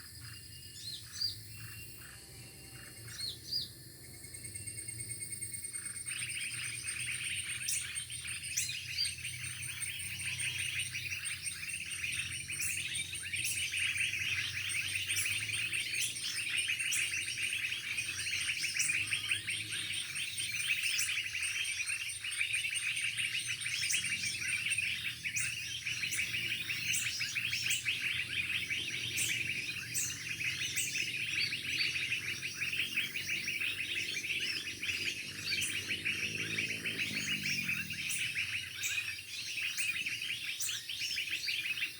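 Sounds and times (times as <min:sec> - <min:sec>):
songbird twittering: 0:00.0 - 0:41.9.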